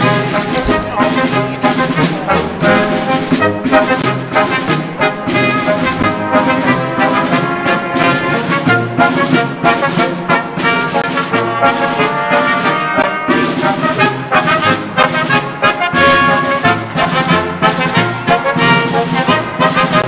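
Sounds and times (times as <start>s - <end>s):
drum steady beat: 0.0s - 20.0s
trombones and trumpets: 0.0s - 20.0s
tuba bass line: 0.0s - 20.0s.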